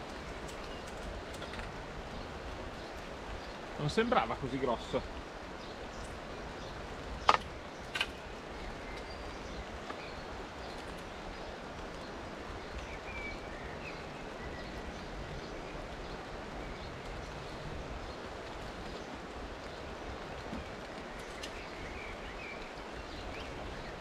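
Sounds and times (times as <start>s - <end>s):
rain falling on water and leaves: 0.0s - 24.0s.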